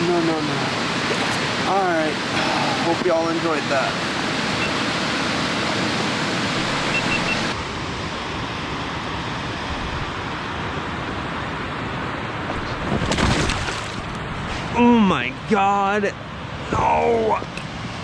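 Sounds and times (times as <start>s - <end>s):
rushing water roar: 0.0s - 18.0s.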